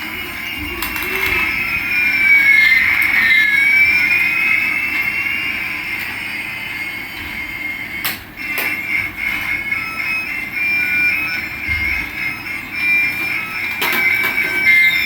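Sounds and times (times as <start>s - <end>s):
thin whining electronic tones: 0.0s - 15.0s.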